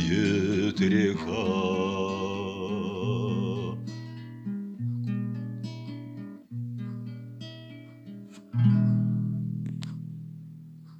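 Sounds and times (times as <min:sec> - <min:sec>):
acoustic guitar chords: 0:00.0 - 0:10.9.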